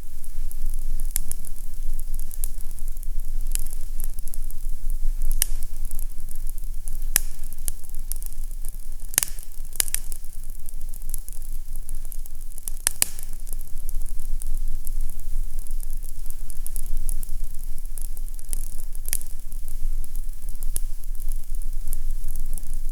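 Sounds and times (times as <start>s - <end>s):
fire crackling pops: 0.0s - 22.9s
fire hissing and rumbling: 0.0s - 22.9s.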